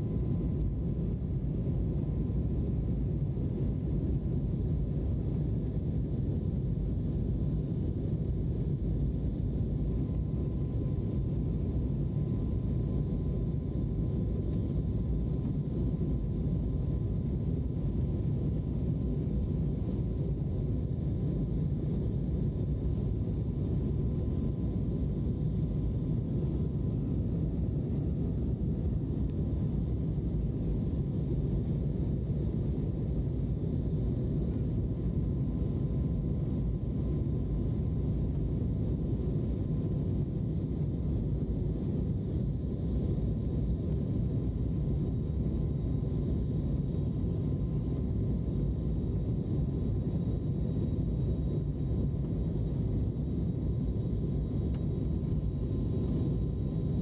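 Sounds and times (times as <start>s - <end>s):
airliner cabin engine rumble: 0.0s - 57.0s
faint steady whine: 0.0s - 57.0s.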